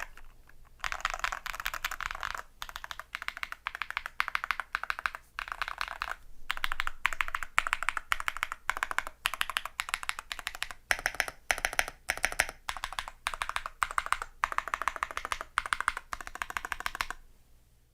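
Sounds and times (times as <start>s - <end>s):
typing on mechanical keyboard: 0.0s - 17.2s.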